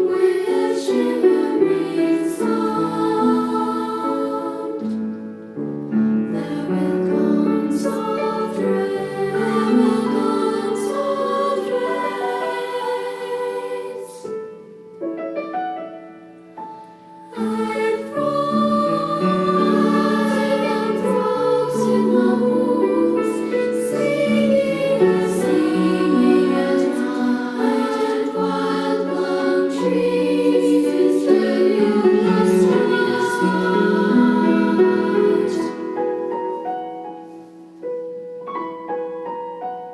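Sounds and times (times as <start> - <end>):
treble choir singing: 0.0 - 14.9, 16.6 - 37.4
piano accompaniment: 0.0 - 39.9.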